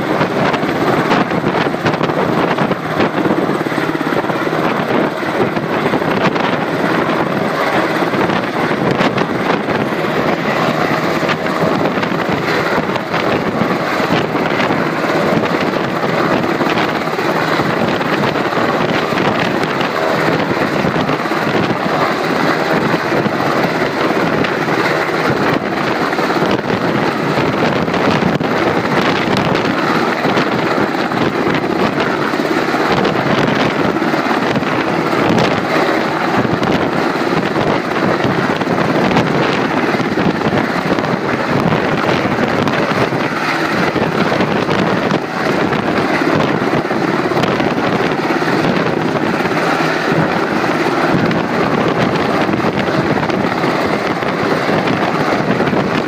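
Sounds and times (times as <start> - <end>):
helicopter rotor and turbine noise: 0.0 - 56.0
wind buffeting microphone: 0.0 - 56.0.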